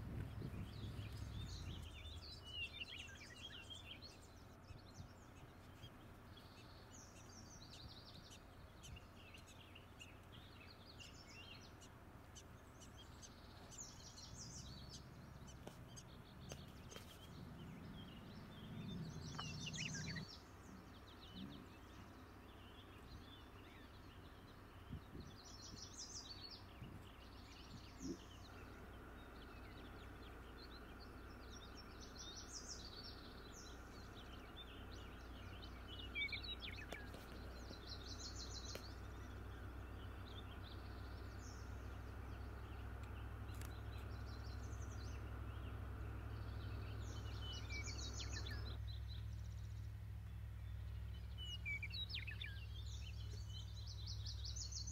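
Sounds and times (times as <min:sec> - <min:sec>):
faint low outdoor rumble: 0:00.0 - 0:54.9
songbirds chirping: 0:00.0 - 0:54.9.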